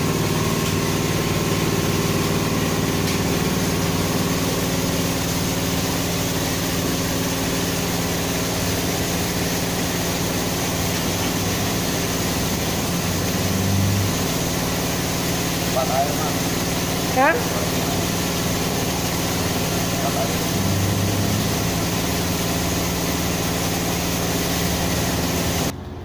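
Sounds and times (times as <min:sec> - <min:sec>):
motor humming: 0:00.0 - 0:26.0
constant hiss: 0:01.8 - 0:25.7.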